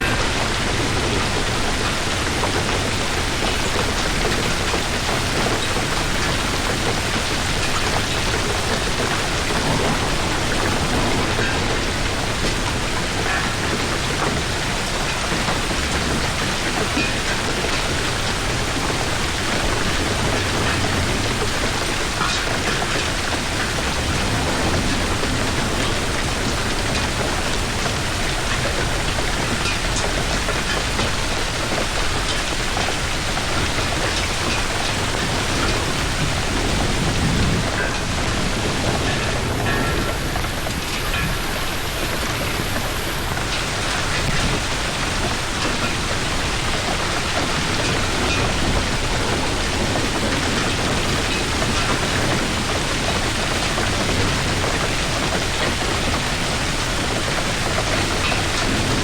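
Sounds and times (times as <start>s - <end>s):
heavy rain and hail falling: 0.0s - 59.0s
sharp hail hits: 0.0s - 59.0s.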